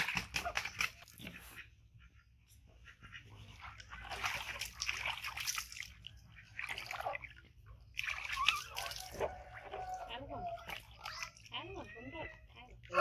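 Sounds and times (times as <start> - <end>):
water splashing in a plastic tub: 0.0 - 1.7, 3.1 - 13.0.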